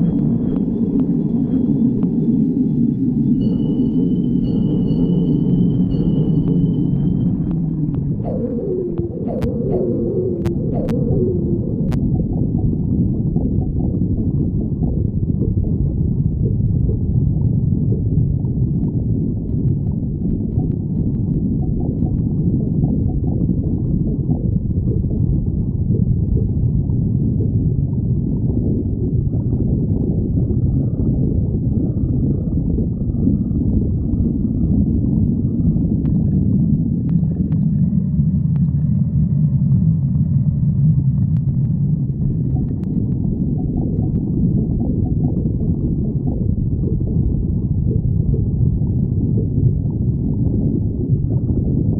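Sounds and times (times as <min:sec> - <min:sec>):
stomach growling and gurgling: 0:00.0 - 0:51.9.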